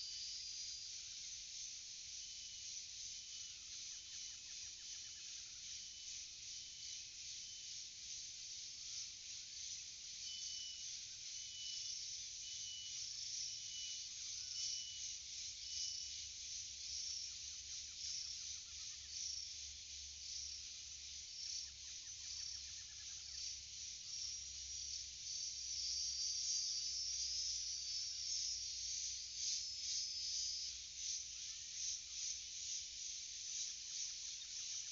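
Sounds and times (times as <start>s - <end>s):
insect chorus: 0.0s - 34.9s.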